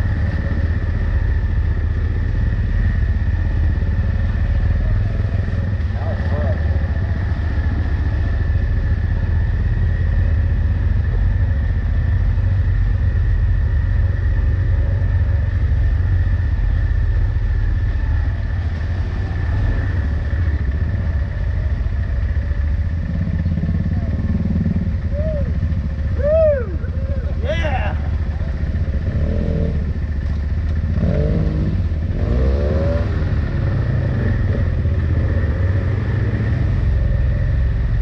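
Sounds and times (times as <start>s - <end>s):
utility vehicle engine rumble: 0.0s - 38.0s.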